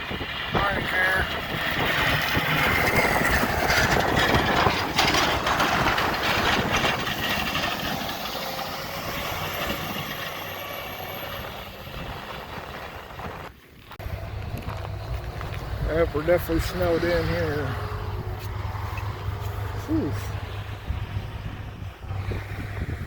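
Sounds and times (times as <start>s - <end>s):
heavy vehicle engine: 0.0s - 23.0s
road noise: 0.0s - 23.0s.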